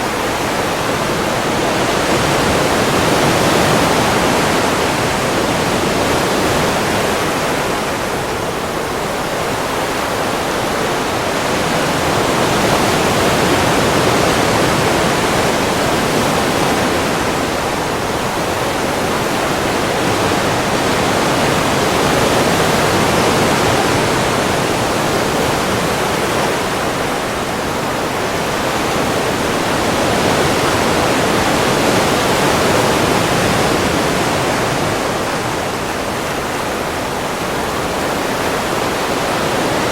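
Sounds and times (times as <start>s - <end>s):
ocean waves surf: 0.0s - 39.9s.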